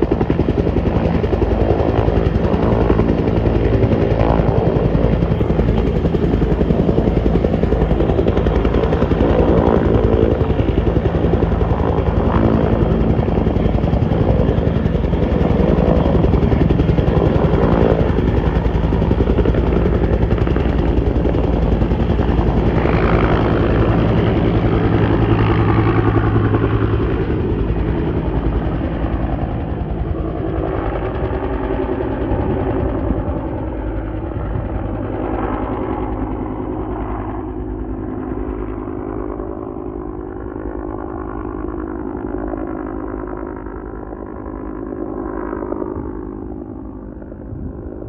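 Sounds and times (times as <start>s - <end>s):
helicopter rotor chopping: 0.0s - 48.0s
helicopter turbine engine: 0.0s - 48.0s.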